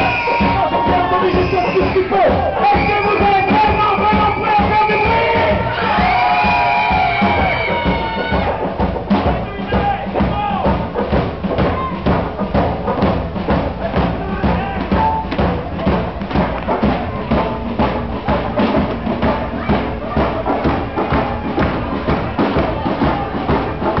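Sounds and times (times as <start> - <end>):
drums fast steady beat: 0.0 - 24.0
rockabilly band playing: 0.0 - 24.0.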